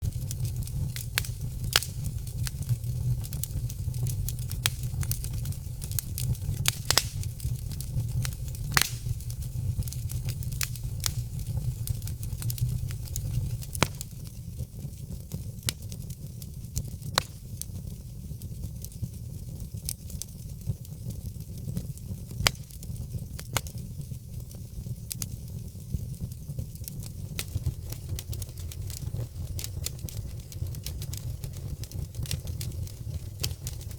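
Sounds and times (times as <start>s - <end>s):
fire crackling and popping: 0.0s - 33.9s
low rumble of flames: 0.0s - 33.9s.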